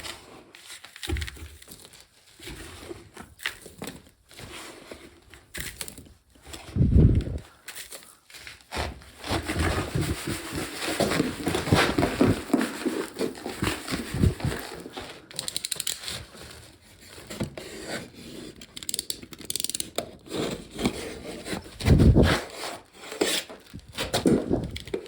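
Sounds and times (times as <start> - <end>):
rustling and scraping: 0.0 - 25.0.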